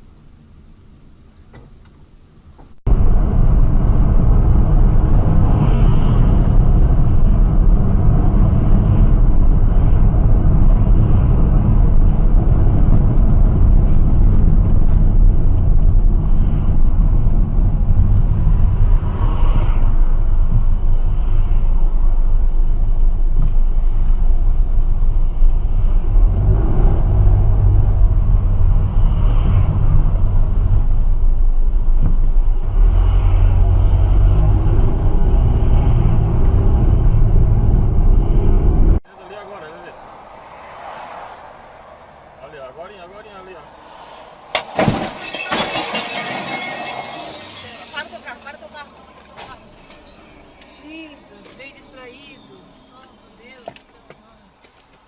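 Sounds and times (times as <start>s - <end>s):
road vehicle engine and road noise: 0.0s - 55.0s.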